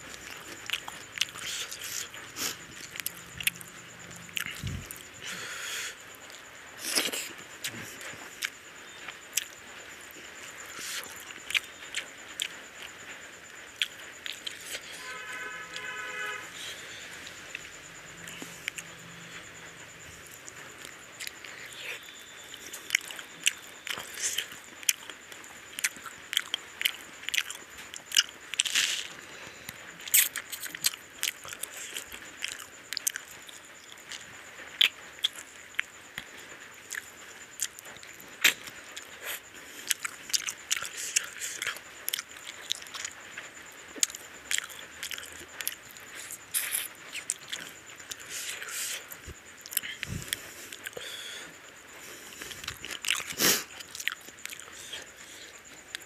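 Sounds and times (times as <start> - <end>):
wet chewing and lip-smacking: 0.1 - 5.4, 6.2 - 13.0, 13.8 - 14.9, 17.2 - 51.1, 51.9 - 56.0.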